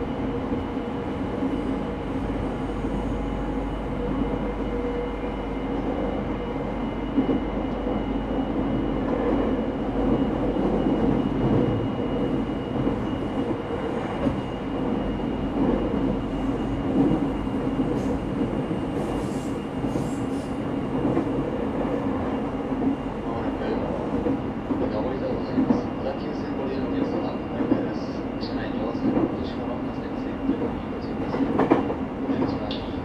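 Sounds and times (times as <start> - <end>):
train wheel and rail rumble: 0.0 - 33.0.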